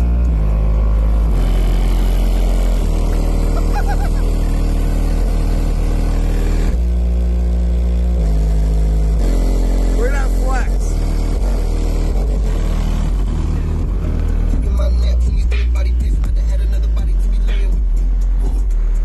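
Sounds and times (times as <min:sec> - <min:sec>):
loud bass music from subwoofer: 0:00.0 - 0:19.0.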